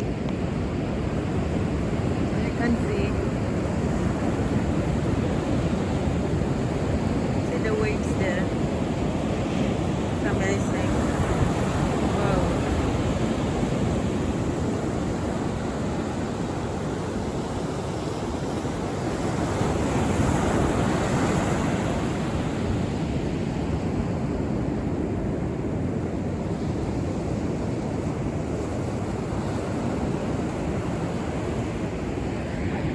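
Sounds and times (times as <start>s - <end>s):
waves breaking on beach: 0.0s - 32.9s.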